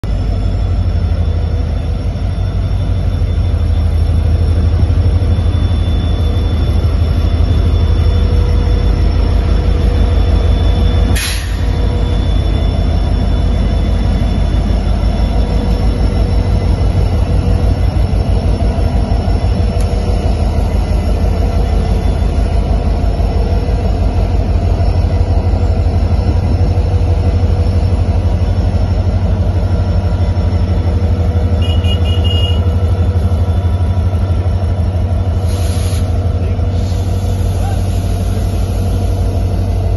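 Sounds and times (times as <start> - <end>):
diesel locomotive engine throbbing: 0.0 - 39.9.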